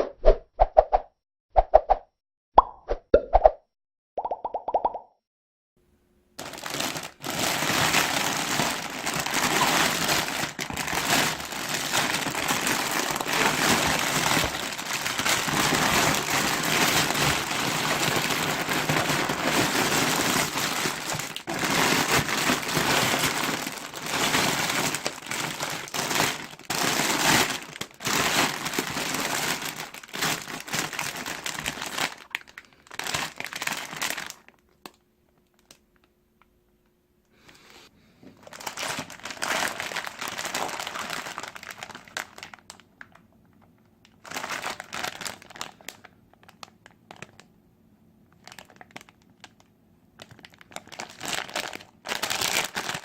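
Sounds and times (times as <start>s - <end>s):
plastic packaging crinkling: 6.4s - 36.1s, 38.4s - 47.5s, 48.3s - 53.0s.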